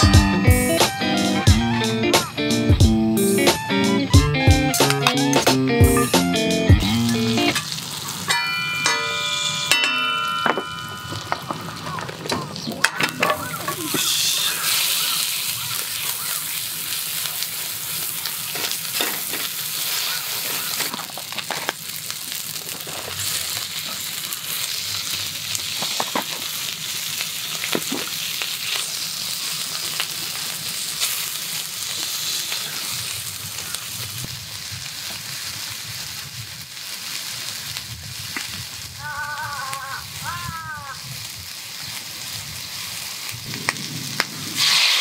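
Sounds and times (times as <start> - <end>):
food sizzling in oil: 6.0 - 45.0.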